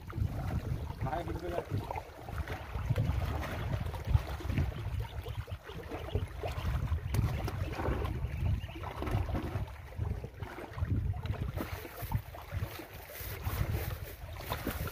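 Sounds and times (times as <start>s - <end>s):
gusty wind on microphone: 0.0s - 14.9s
small waves lapping on rocks: 0.0s - 14.9s.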